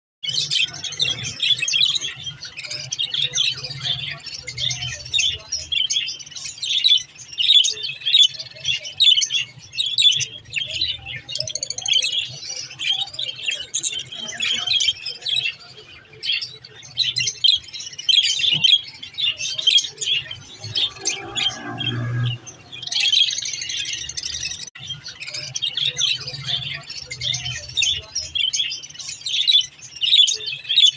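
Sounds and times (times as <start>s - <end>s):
budgerigars chattering: 0.3s - 30.9s.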